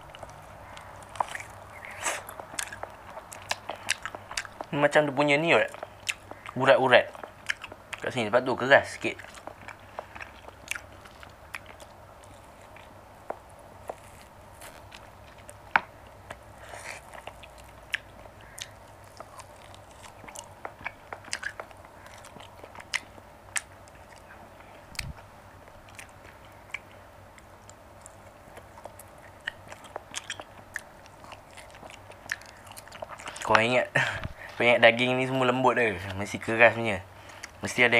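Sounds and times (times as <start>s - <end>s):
person chewing meat: 0.0s - 34.6s, 37.1s - 37.7s
faint steady hum: 0.0s - 37.9s.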